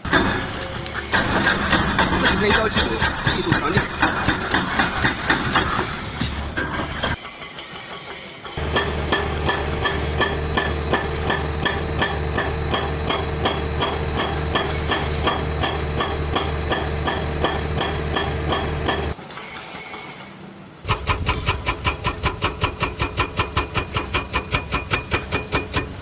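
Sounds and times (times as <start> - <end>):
excavator engine running: 0.0 - 7.2, 7.8 - 19.2, 20.9 - 26.0
hydraulic rock breaker hammering: 0.0 - 7.2, 8.4 - 19.2, 20.9 - 26.0.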